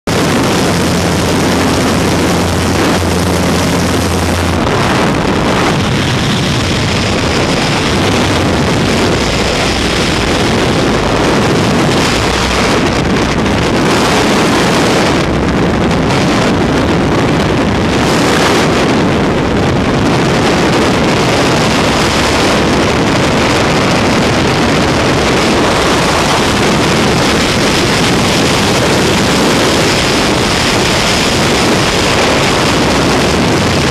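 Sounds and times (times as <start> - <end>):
aircraft engine drone: 0.1 - 33.9
wind buffeting microphone: 0.1 - 33.9.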